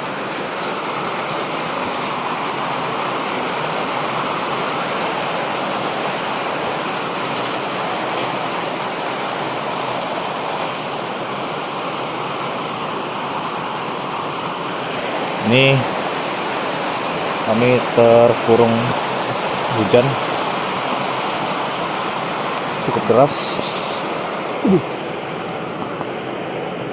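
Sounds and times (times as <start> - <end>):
heavy rain downpour: 0.0 - 26.9.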